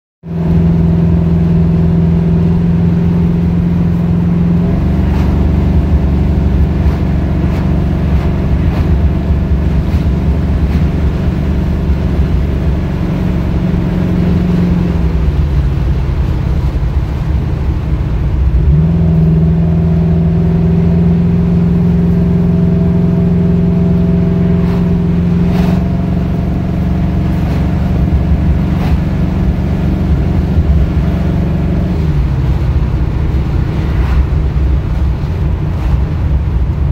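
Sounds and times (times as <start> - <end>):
car engine running under load: 0.2 - 36.9.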